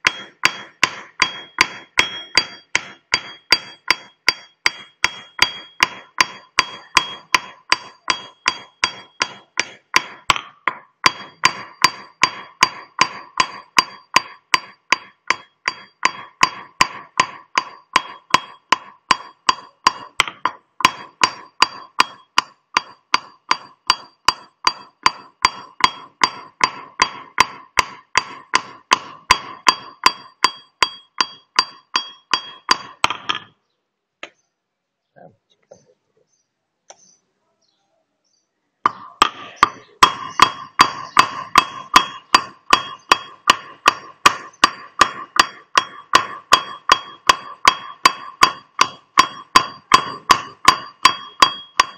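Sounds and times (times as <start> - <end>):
hammer striking chisel on stone: 0.0 - 33.6, 38.8 - 51.9.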